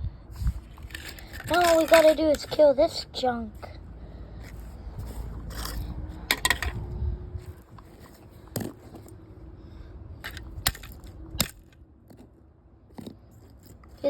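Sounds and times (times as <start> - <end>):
low handling rumble: 0.0 - 12.3.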